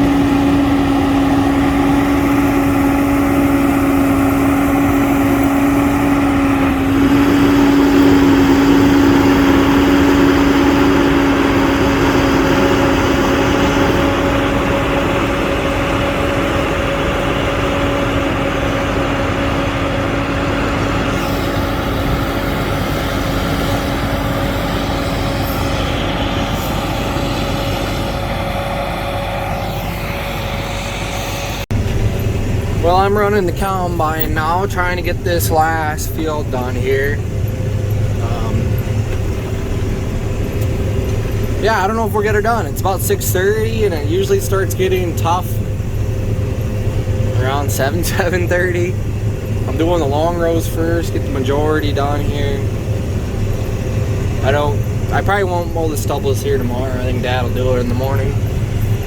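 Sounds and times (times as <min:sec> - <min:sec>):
farm machinery engine running: 0:00.0 - 0:59.0.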